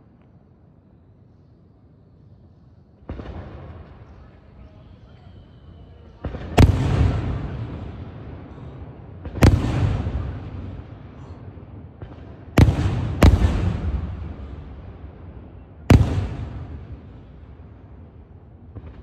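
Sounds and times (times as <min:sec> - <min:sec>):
rolling echo: 0:00.0 - 0:19.0.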